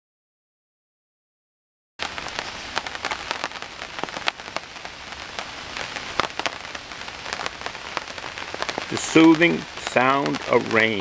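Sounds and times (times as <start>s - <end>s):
rain falling: 2.0s - 11.0s
raindrops tapping: 2.0s - 11.0s.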